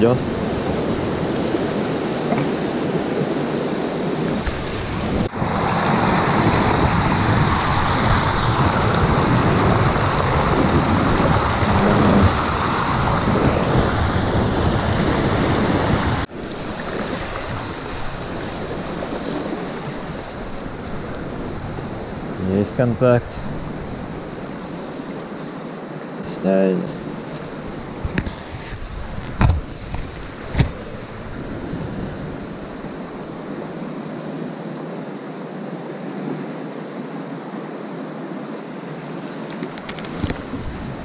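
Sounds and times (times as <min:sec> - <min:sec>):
mountain river rushing: 0:00.0 - 0:41.0.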